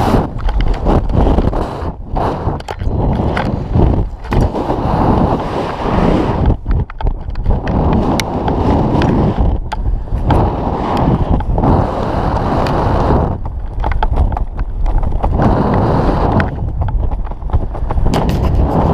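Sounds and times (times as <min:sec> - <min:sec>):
small clicks and rustles: 0:00.0 - 0:18.9
wind buffeting microphone: 0:00.0 - 0:18.9.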